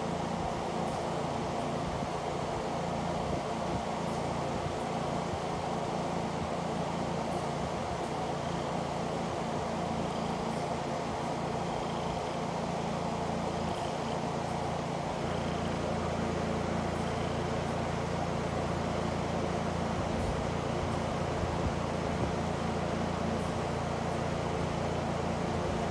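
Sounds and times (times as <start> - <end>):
electric fan running: 0.0 - 25.9.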